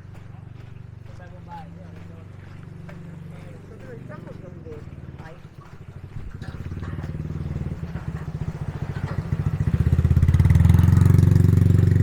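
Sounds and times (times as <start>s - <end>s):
motorbike engine at low revs: 0.0s - 12.0s.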